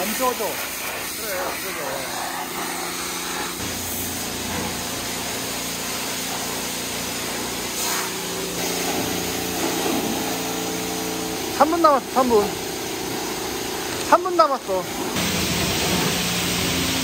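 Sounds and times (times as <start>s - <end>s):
pressure washer spraying water: 0.0s - 17.0s
pump motor hum: 0.0s - 17.0s.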